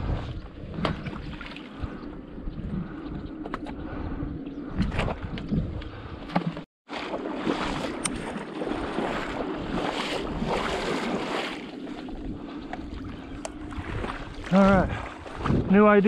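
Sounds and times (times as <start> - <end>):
legs wading through water: 0.0 - 3.8, 6.2 - 16.0.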